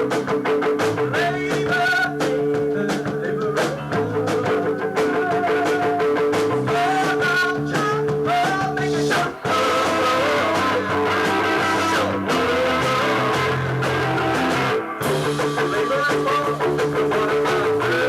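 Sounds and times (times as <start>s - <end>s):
electric guitar: 0.0s - 18.0s
live band playing: 0.0s - 18.0s.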